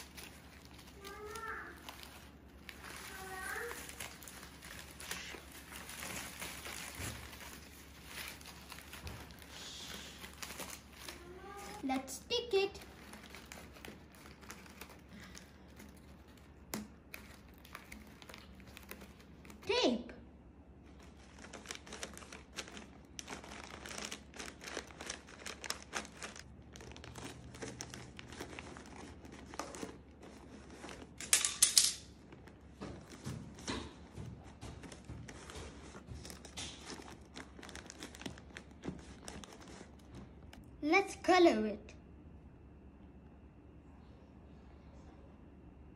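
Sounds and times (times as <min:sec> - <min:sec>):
newspaper rustling and crinkling: 0:00.0 - 0:19.7, 0:20.8 - 0:40.6
tape around paper: 0:00.0 - 0:20.1, 0:20.8 - 0:31.4, 0:32.2 - 0:40.6.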